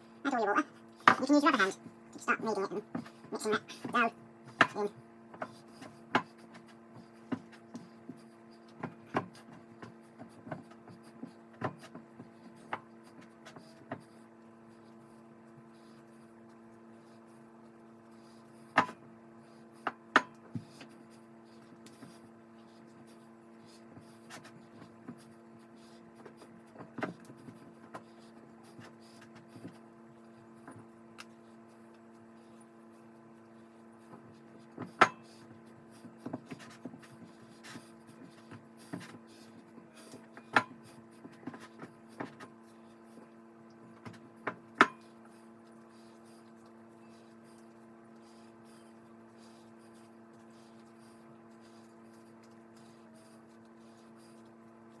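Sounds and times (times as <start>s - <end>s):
low electrical hum: 0.0s - 55.0s.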